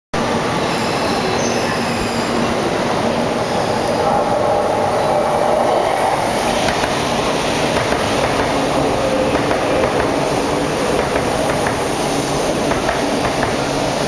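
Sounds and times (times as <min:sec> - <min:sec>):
train wheels and motors rumbling: 0:00.2 - 0:14.0.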